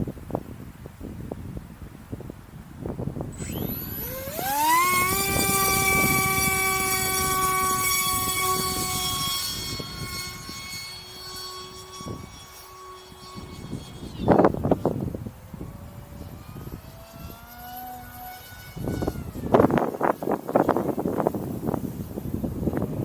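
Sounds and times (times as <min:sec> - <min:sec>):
wind noise on microphone: 0:00.0 - 0:23.0
electric motor propeller whine: 0:01.2 - 0:23.0.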